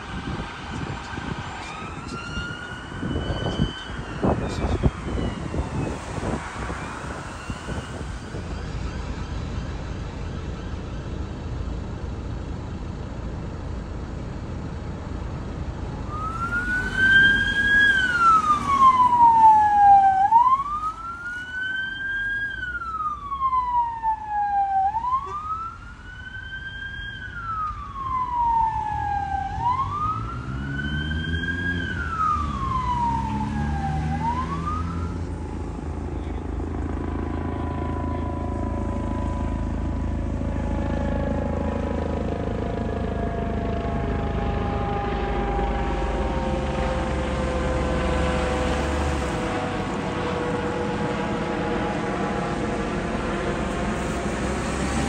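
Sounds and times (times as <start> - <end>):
emergency vehicle siren wailing: 0.0 - 11.5, 15.9 - 55.0
road traffic noise: 0.0 - 55.0.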